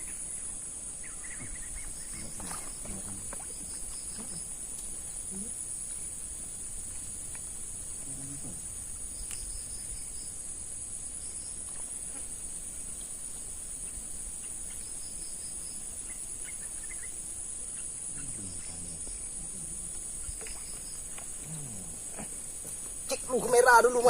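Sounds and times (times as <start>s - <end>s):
high-pitched insect chorus droning: 0.0s - 24.0s.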